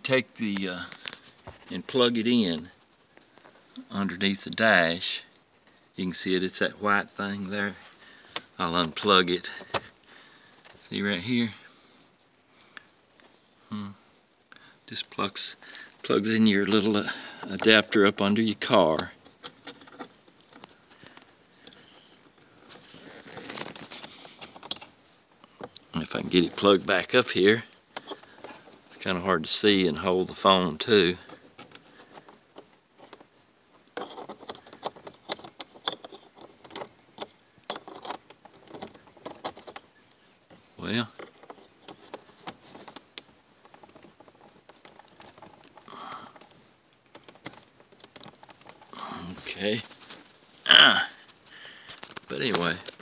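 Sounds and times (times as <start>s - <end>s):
faint rustling: 0.0s - 53.0s.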